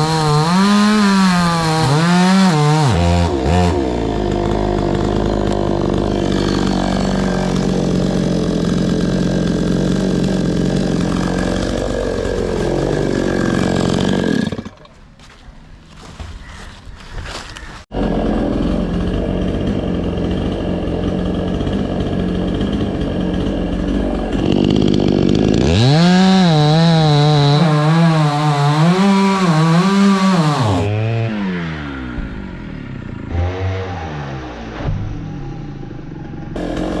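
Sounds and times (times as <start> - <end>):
chainsaw running and revving: 0.0 - 15.4, 17.3 - 34.8, 36.5 - 37.0.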